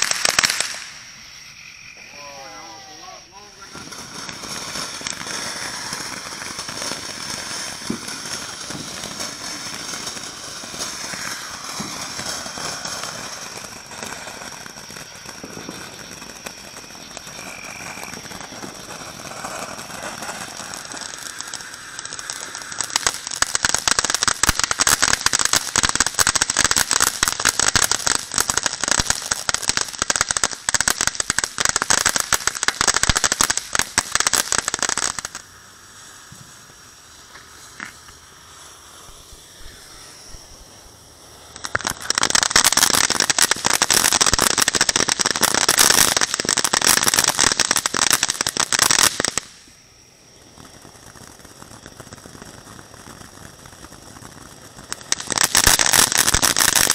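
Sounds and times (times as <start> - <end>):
dense rapid firework crackling: 0.0 - 56.9
firework fountain hissing and crackling: 0.0 - 56.9.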